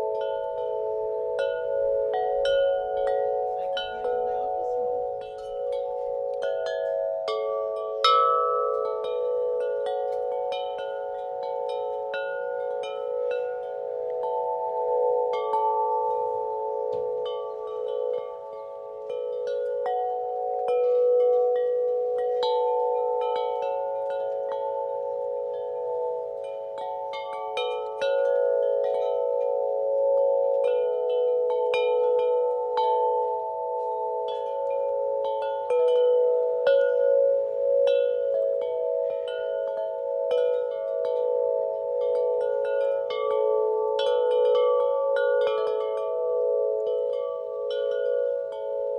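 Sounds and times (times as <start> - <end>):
wind chimes ringing: 0.0 - 48.9.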